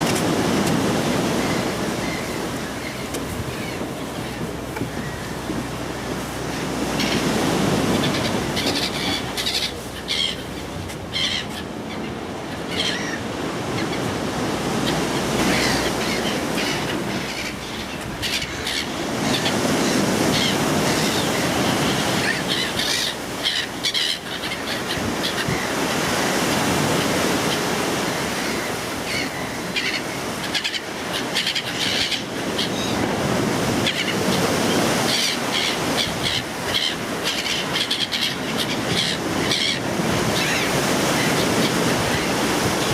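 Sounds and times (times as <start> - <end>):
gulls calling: 0.0 - 42.9
sea surf on shore: 0.0 - 42.9.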